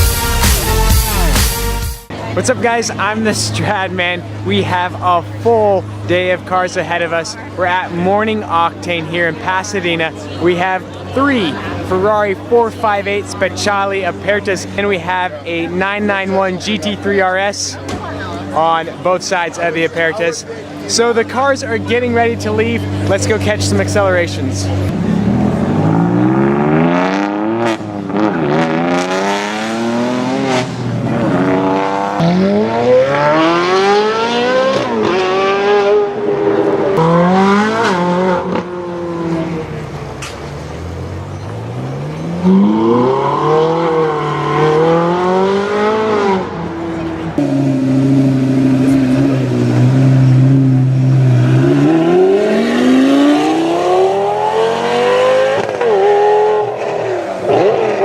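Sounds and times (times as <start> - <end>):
supercar engines accelerating: 2.1 - 58.0.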